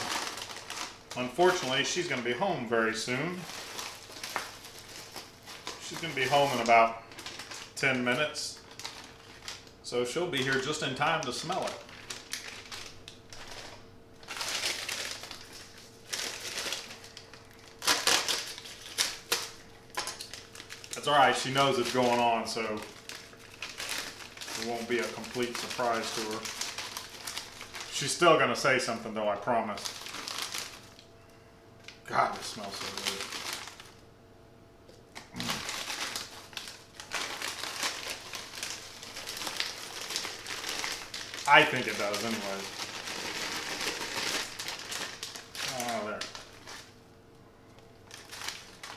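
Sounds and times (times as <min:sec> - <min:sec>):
plastic bag crinkling: 0:00.0 - 0:31.2, 0:31.8 - 0:34.0, 0:35.2 - 0:47.0, 0:47.8 - 0:48.9.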